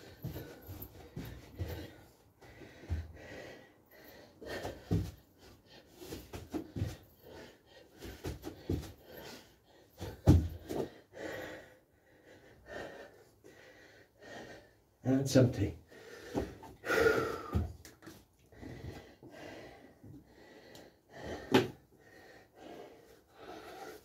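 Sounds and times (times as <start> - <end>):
man breathing hard: 0.0 - 15.0, 15.8 - 24.0.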